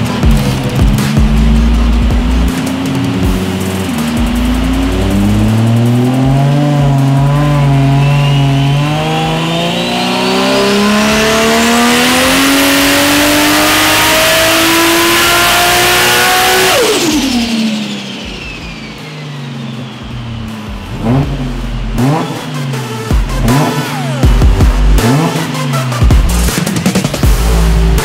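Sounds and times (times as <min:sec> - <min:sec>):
turbo whine: 0:00.0 - 0:26.5
engine revving under load: 0:00.0 - 0:28.0.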